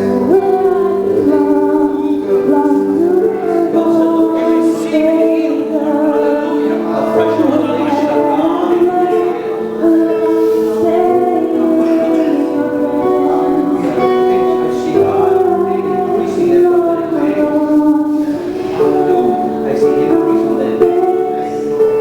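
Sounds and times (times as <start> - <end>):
person singing worship music: 0.0 - 22.0
sustained keyboard chords: 0.0 - 22.0.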